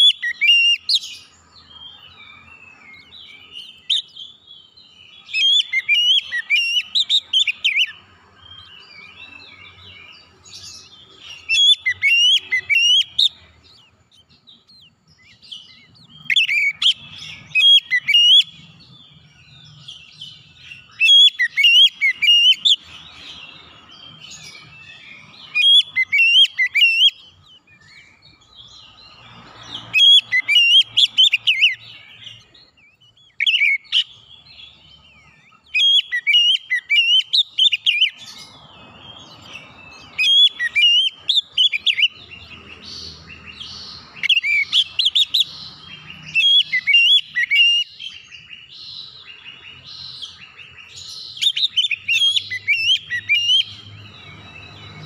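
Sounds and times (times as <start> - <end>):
bird whistling and chirping: 0.0 - 38.6, 39.2 - 55.0.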